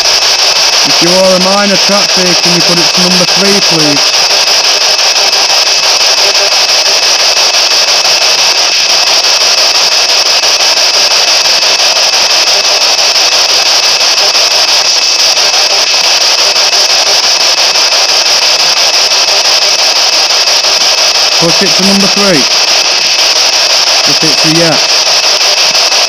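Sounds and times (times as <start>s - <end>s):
radio static hiss with flutter: 0.0s - 26.0s.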